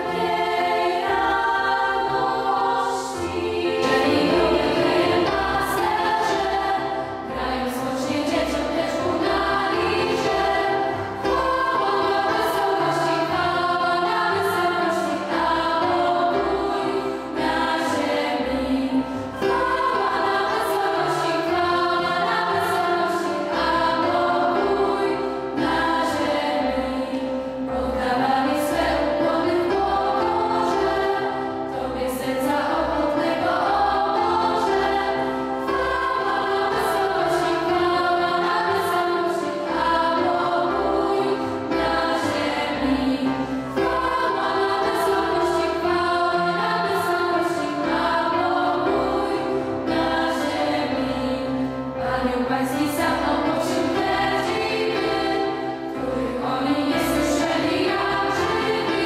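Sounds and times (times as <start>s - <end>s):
girls' choir singing a carol: 0.0s - 59.0s.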